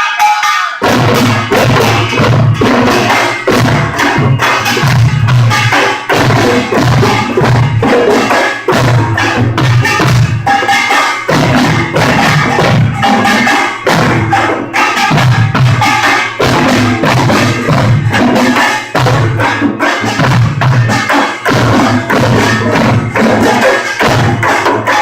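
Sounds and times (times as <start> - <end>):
drum beats: 0.0 - 25.0
small gongs clanging: 0.0 - 25.0.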